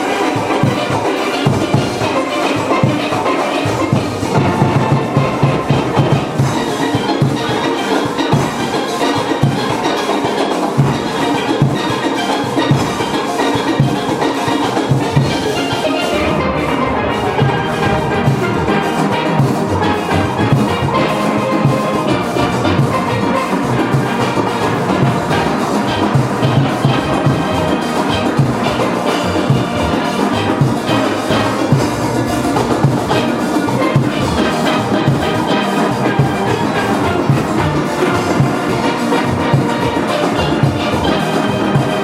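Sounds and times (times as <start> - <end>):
drums and percussion beat: 0.0 - 42.0
steel pans playing: 0.0 - 42.0.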